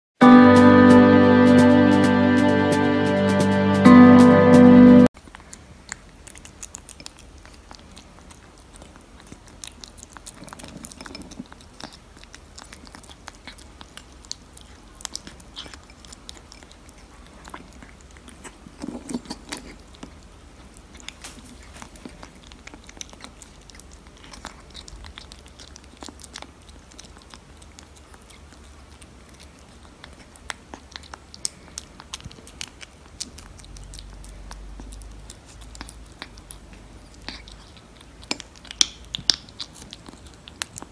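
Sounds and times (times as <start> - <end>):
kitten crunching dry food: 5.2 - 40.9.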